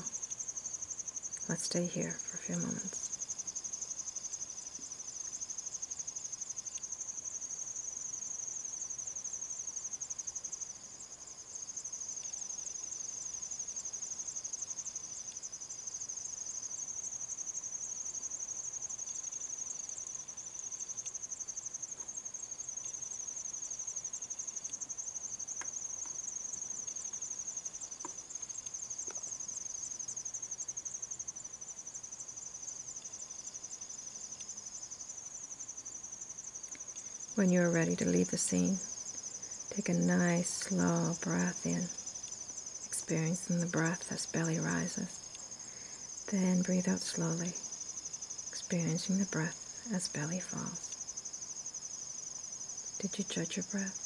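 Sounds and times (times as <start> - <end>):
crickets trilling: 0.0 - 54.0
lower insect trill: 0.0 - 54.0.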